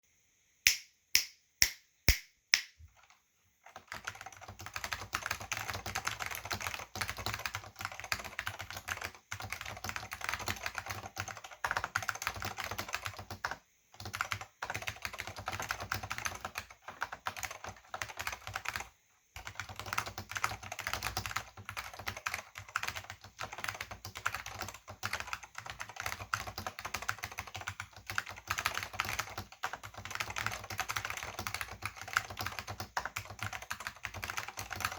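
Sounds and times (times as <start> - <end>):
keyboard typing: 2.6 - 34.9
loud keyboard clicks: 2.6 - 34.9.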